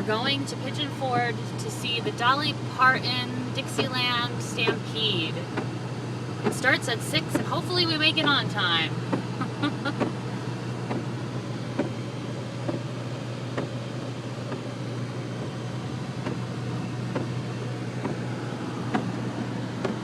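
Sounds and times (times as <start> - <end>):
car engine and tyre hum: 0.0 - 20.0
wet road noise: 0.0 - 20.0.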